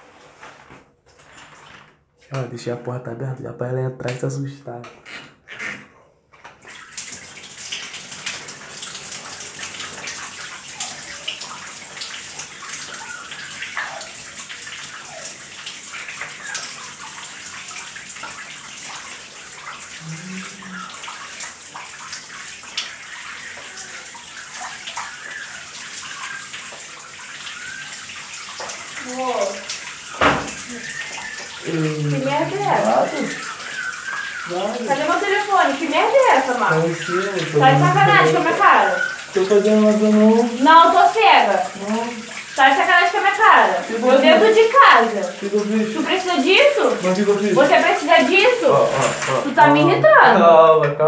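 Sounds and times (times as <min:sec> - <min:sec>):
shower water spraying: 0:06.6 - 0:50.2.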